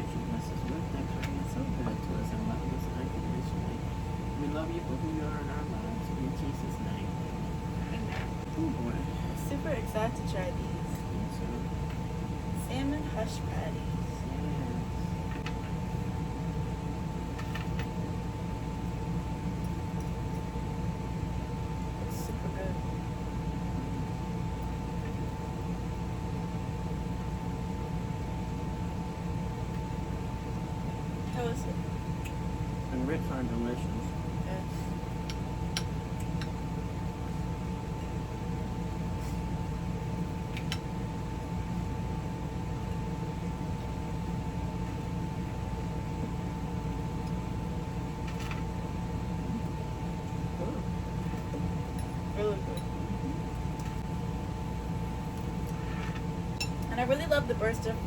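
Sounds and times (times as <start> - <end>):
mechanical hum and hiss: 0.0 - 58.0.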